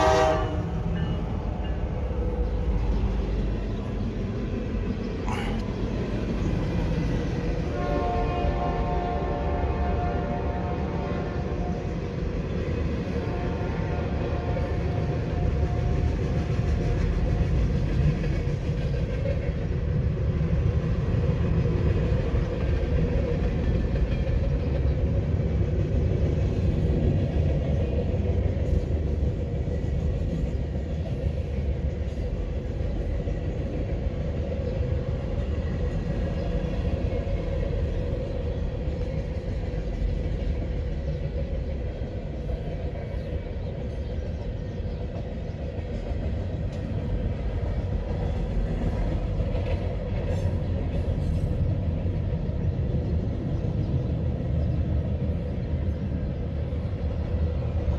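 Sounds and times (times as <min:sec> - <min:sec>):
freight train rumbling on rails: 0:00.0 - 0:57.9.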